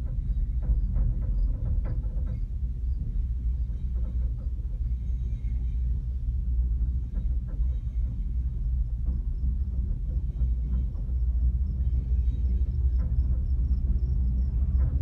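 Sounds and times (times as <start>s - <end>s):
cabin ticks and rattles: 0.0s - 15.0s
gondola cabin rumble: 0.0s - 15.0s.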